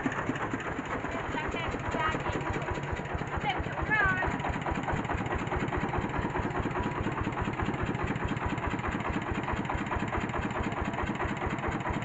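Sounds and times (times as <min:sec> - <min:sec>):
diesel engine thudding: 0:00.0 - 0:12.0
huller machinery whirring: 0:00.0 - 0:12.0.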